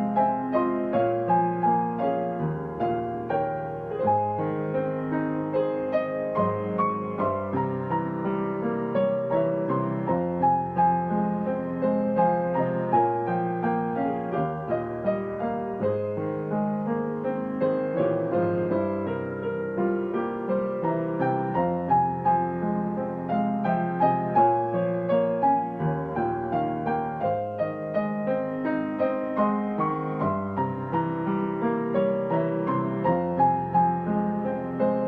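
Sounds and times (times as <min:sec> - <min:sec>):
digital piano playing: 0:00.0 - 0:35.0.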